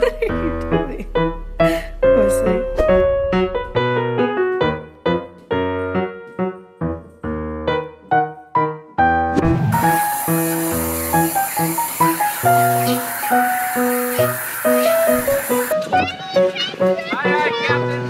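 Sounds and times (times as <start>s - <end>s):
light piano tune: 0.0s - 18.0s.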